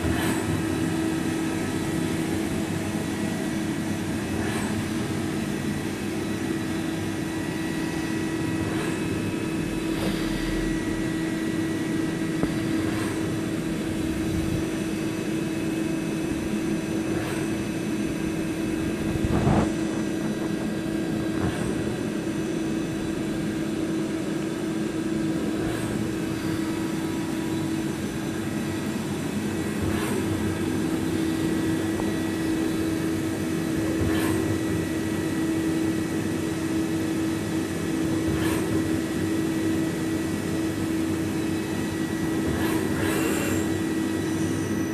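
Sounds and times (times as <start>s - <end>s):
lathe machine hum: 0.0s - 44.9s.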